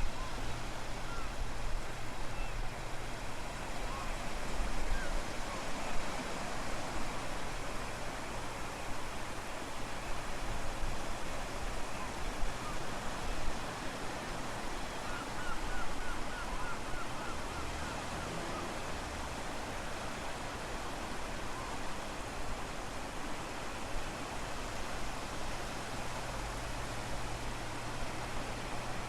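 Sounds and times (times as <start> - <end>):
waves breaking on shore: 0.0 - 29.0.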